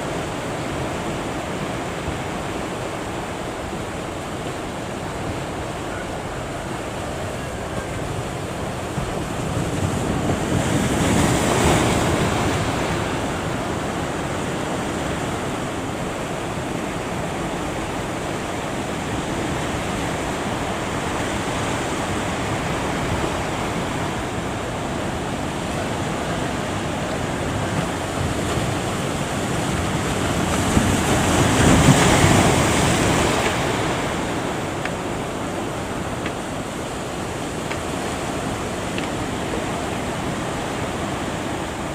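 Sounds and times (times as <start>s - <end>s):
big wave breaking: 0.0s - 41.9s
ocean waves washing: 0.0s - 41.9s.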